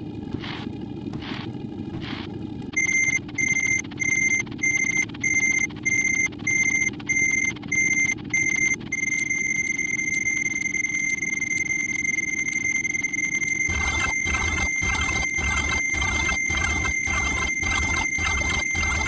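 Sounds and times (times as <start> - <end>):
low hum: 0.0 - 19.0
high electronic alarm beep: 2.8 - 19.0.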